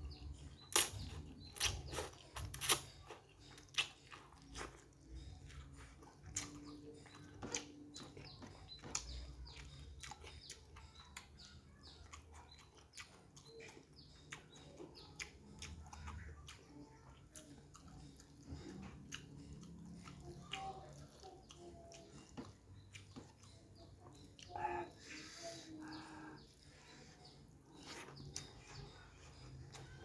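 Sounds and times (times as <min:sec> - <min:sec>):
chewing noodles and rice: 0:00.0 - 0:30.0.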